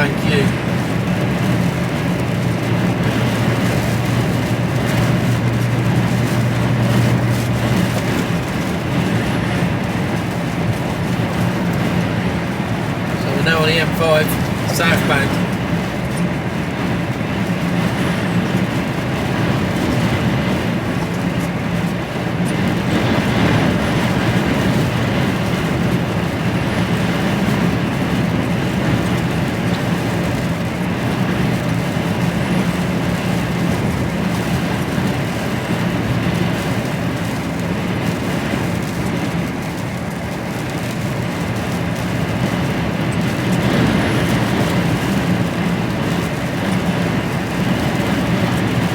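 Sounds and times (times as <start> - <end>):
diesel engine hum: 0.0 - 48.9
road noise: 0.0 - 48.9.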